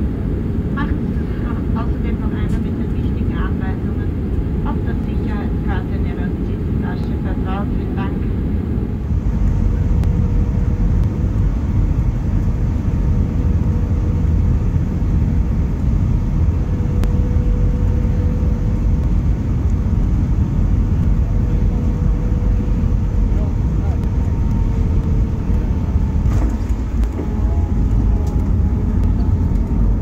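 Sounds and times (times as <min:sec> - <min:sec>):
jet cabin engine rumble: 0:00.0 - 0:30.0
thin steady hum: 0:00.0 - 0:30.0.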